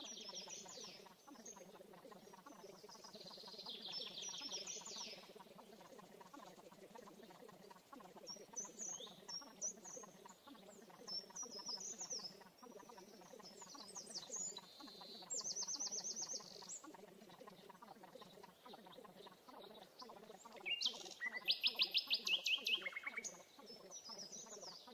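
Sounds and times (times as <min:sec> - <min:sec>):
background bird chorus: 0:00.0 - 0:24.9
small bird singing: 0:00.0 - 0:24.9.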